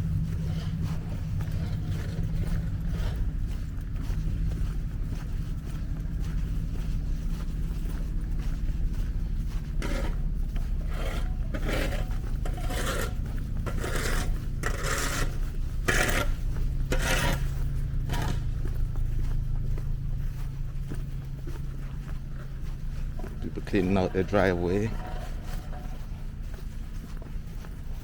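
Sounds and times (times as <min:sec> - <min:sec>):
footsteps crunching through snow: 0:00.0 - 0:28.0
low steady rumble: 0:00.0 - 0:28.0.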